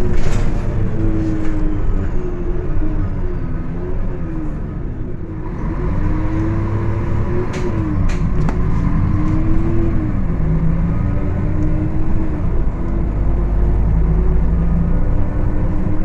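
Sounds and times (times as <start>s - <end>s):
bus engine running: 0.0s - 16.0s.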